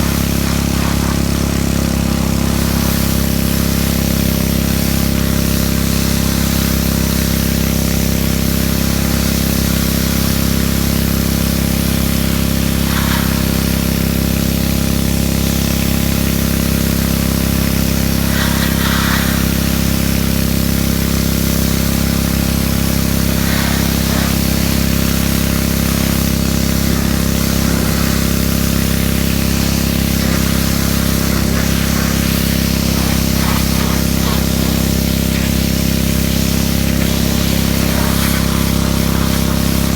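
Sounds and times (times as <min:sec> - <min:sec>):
high-pressure spray hissing: 0:00.0 - 0:39.9
pressure washer hum: 0:00.0 - 0:39.9.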